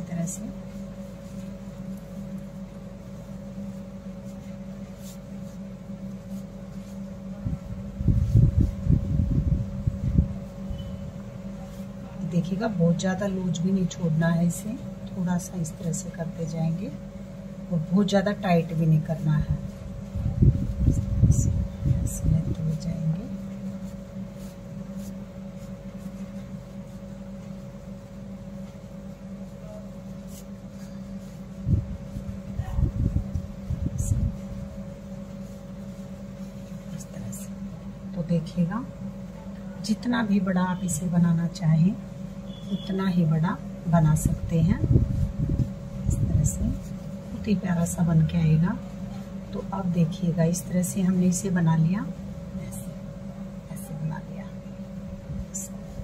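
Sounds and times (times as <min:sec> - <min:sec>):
cloth rustling and scratching: 0:00.0 - 0:38.8, 0:42.2 - 0:51.3
electrical hum: 0:00.0 - 0:56.0.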